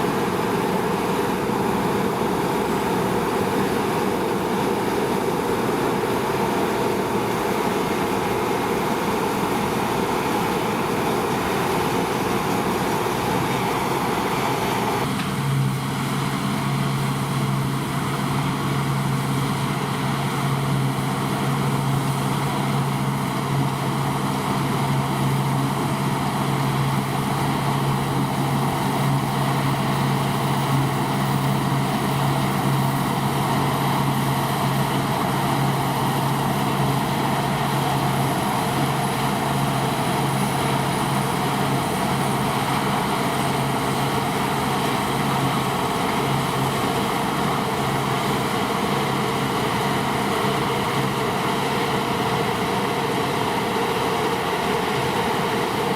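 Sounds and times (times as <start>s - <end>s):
combine harvester drone: 0.0s - 55.9s.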